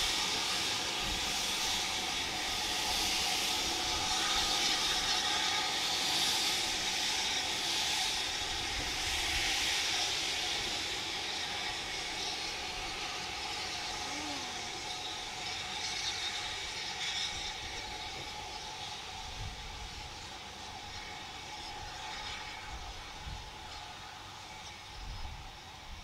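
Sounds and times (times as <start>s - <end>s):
steam hissing: 0.0s - 25.7s.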